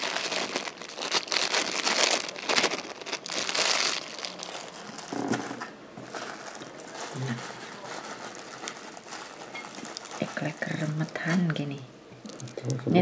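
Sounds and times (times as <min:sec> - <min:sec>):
onion crinkling and rustling: 0:00.0 - 0:11.5.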